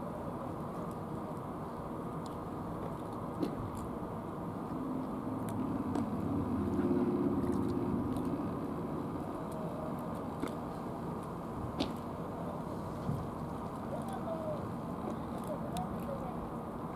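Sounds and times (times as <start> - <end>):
passing motor engine hum: 0.0 - 16.9.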